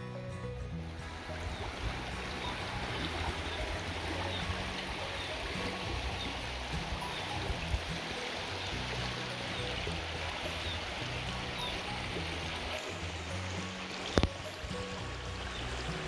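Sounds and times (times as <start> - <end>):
soft background music: 0.0 - 16.0
stream water rushing: 0.6 - 16.0.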